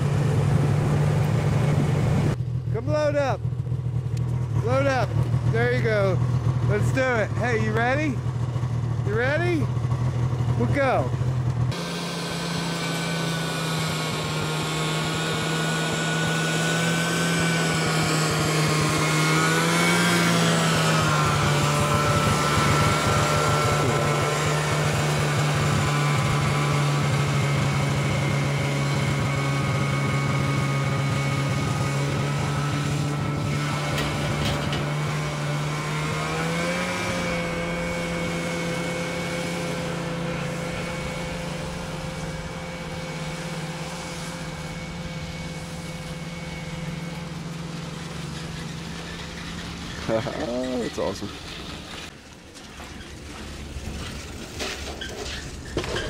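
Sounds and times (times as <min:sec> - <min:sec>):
snowmobile engine running: 0:00.0 - 0:52.2.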